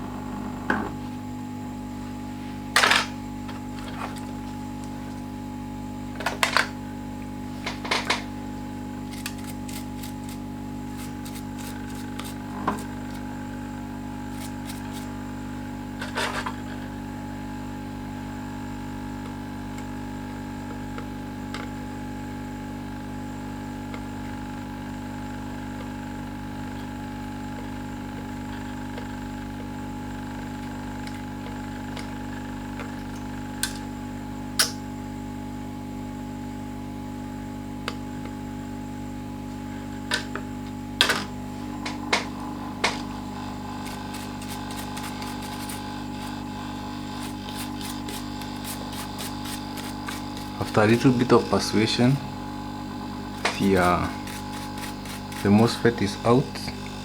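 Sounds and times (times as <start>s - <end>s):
small motor humming: 0.0s - 34.8s, 37.1s - 57.0s.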